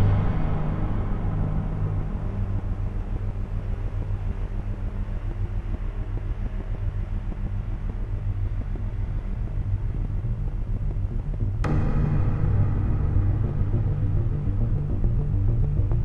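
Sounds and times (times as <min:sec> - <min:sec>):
dark low drone film music: 0:00.0 - 0:16.0.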